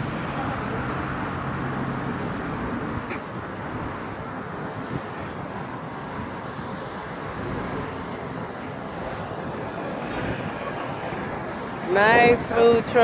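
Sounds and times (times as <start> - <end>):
passing road traffic: 0.0 - 13.0.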